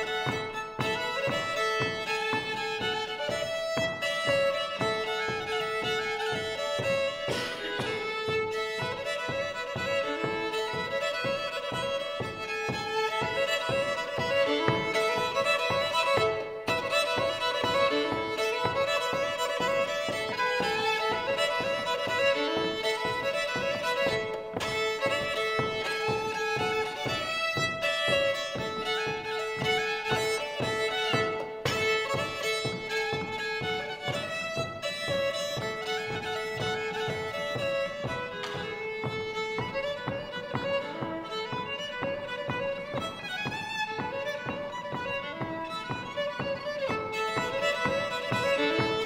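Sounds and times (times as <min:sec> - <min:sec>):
fiddle folk melody: 0:00.0 - 0:49.0
rhythmic accompaniment: 0:00.0 - 0:49.0.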